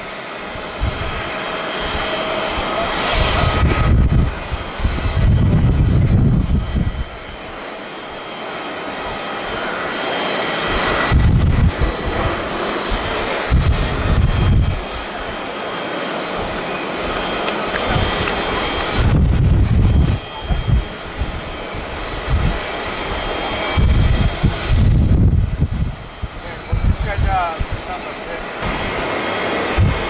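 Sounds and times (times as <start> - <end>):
wind buffeting microphone: 0.0 - 7.7, 10.6 - 15.5, 16.1 - 30.0
jet engines rushing: 0.0 - 30.0.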